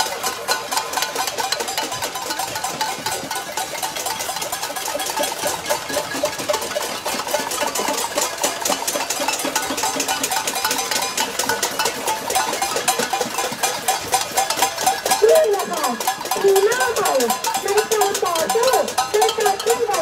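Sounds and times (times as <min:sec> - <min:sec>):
crowd banging pots and pans: 0:00.0 - 0:20.0.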